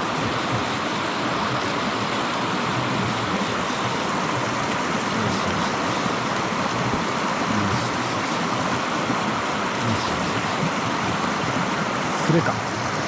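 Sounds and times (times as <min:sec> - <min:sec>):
mountain stream water rushing: 0:00.0 - 0:13.0.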